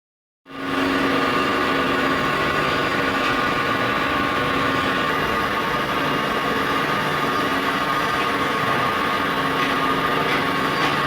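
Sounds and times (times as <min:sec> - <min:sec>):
grinding machine hum and whine: 0:00.5 - 0:11.0.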